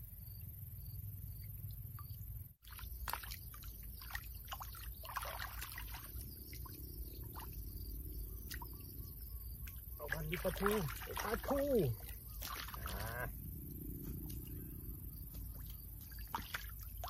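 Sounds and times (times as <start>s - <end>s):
water splashing and trickling: 1.4s - 13.4s, 14.1s - 17.0s.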